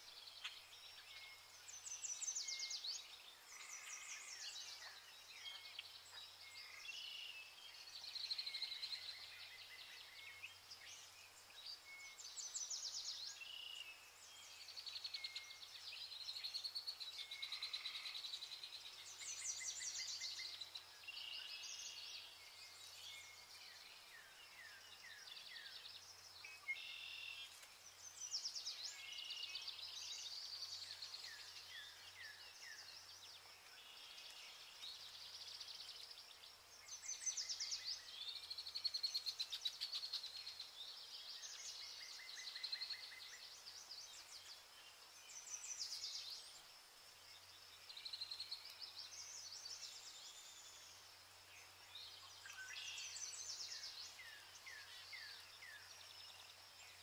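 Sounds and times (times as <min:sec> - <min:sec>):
small birds singing and chirping: 0:00.0 - 0:57.0.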